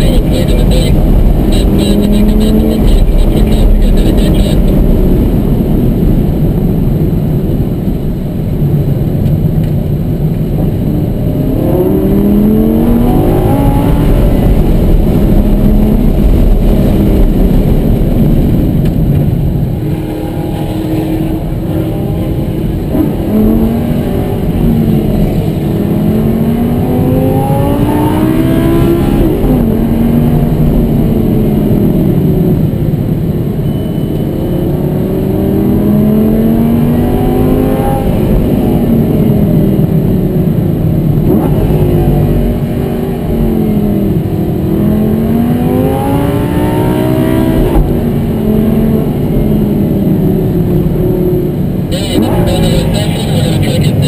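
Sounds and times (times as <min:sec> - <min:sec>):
car engine accelerating hard: 0:00.0 - 0:07.8, 0:08.8 - 0:33.2, 0:34.7 - 0:54.0.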